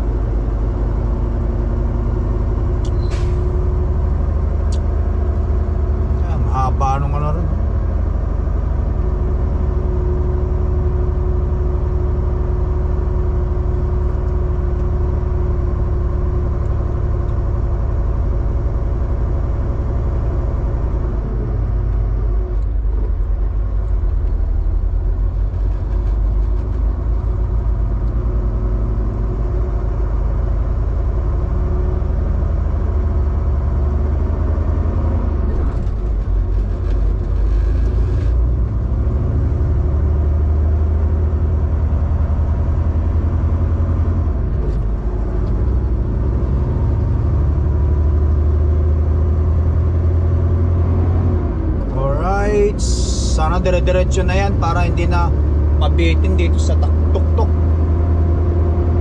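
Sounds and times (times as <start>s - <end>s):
diesel truck engine running: 0.0s - 59.0s
tyre and road noise: 0.0s - 59.0s.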